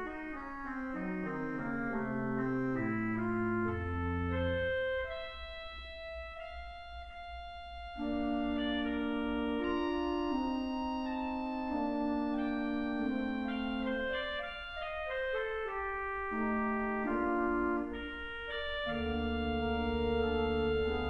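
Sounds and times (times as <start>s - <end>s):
deep organ pedal bass: 0.0s - 21.0s
pipe organ chords: 0.0s - 21.0s.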